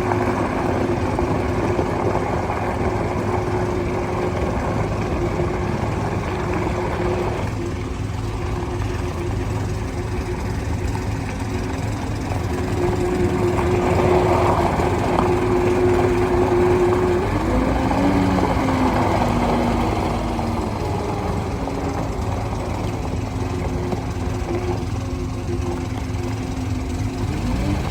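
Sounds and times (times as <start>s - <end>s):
diesel engine running: 0.0s - 27.9s
steady whine: 0.0s - 27.9s.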